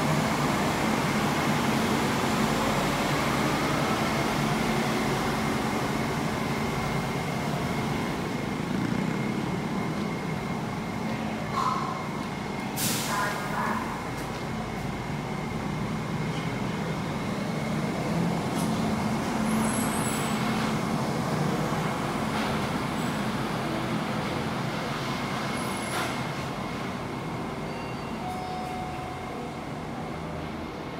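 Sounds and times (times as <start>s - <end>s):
light rail vehicle rumbling: 0.0s - 30.9s.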